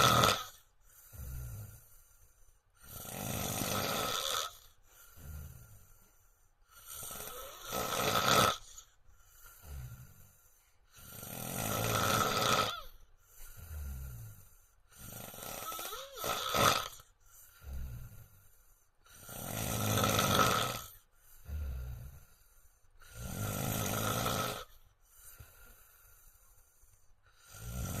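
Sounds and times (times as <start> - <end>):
man snoring loudly: 0.0 - 2.0, 2.8 - 5.9, 6.7 - 18.5, 19.1 - 22.4, 23.0 - 24.8, 27.3 - 28.0
quiet breath: 0.0 - 8.0, 8.6 - 16.2, 16.9 - 19.5, 20.8 - 28.0.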